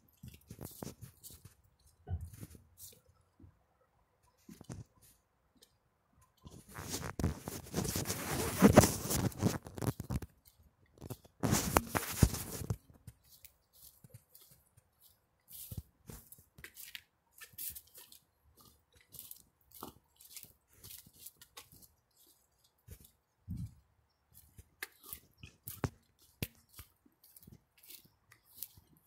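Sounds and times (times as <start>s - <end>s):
rustling on phone microphone: 0.0s - 3.4s, 4.3s - 5.3s, 6.4s - 29.0s.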